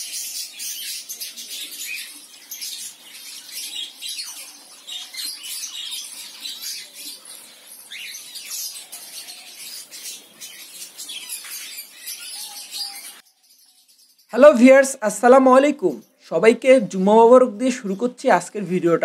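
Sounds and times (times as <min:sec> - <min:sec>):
finch flock chirping: 0:00.0 - 0:16.6.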